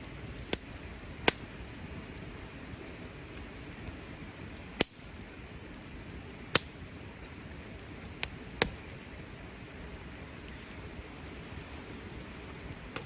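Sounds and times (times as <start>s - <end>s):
low hiss: 0.0s - 13.0s
wood fire crackling: 0.0s - 13.0s.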